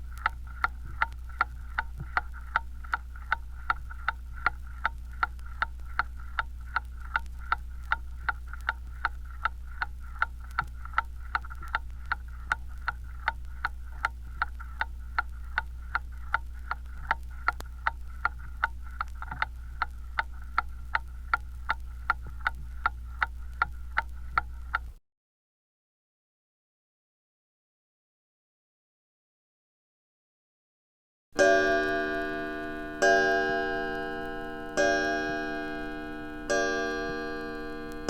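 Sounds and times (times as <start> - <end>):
clock ticking: 0.0 - 24.9, 31.4 - 38.0
low hum: 0.0 - 25.0, 31.4 - 38.0.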